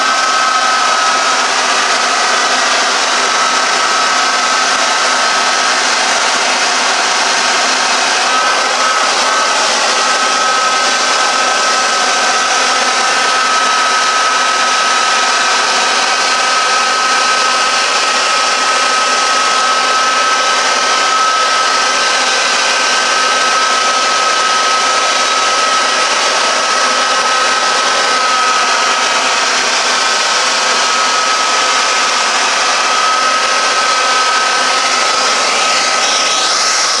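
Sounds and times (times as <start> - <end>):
hair dryer blowing: 0.0 - 37.0.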